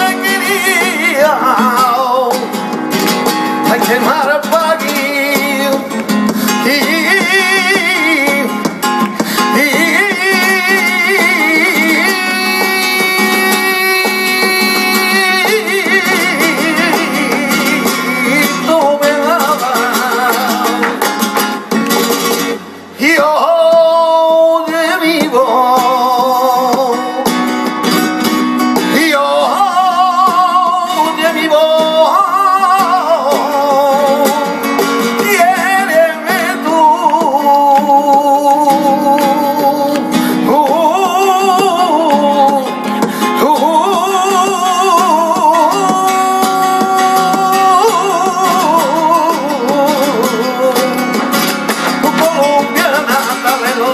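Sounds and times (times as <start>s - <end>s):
flamenco guitar: 0.0s - 53.9s
man singing flamenco: 0.0s - 53.9s.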